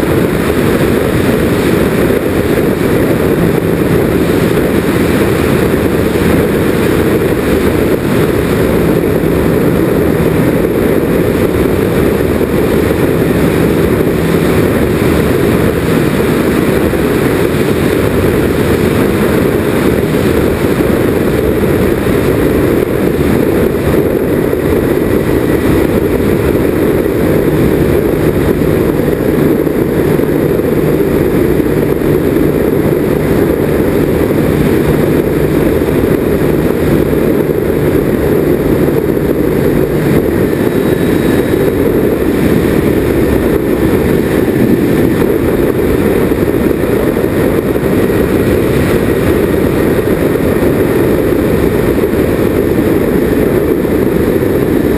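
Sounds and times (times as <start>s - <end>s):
model plane propellers rushing: 0.0s - 54.9s
wind over airframe: 0.0s - 54.9s.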